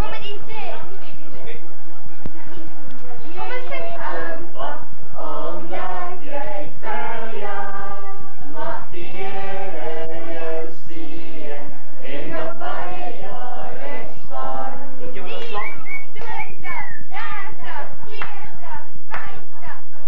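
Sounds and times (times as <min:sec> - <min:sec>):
group singing together: 0:03.2 - 0:20.0.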